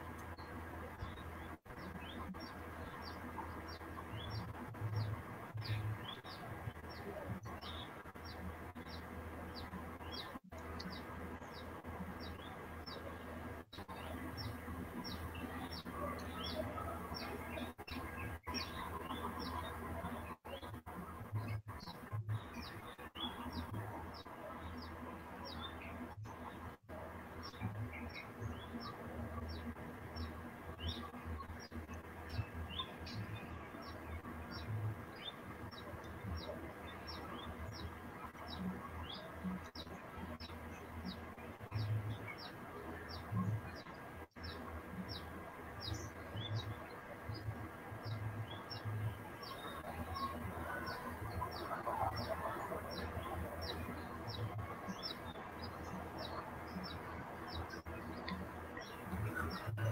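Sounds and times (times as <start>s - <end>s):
small bird chirping: 0.0s - 26.8s, 27.4s - 59.9s.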